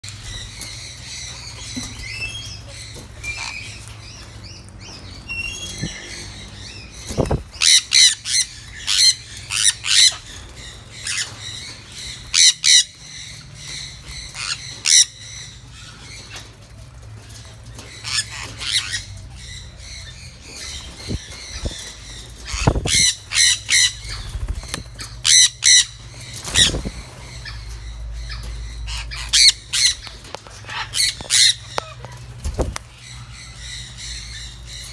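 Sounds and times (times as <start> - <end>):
parrots squawking: 0.2 - 16.6, 17.3 - 34.9.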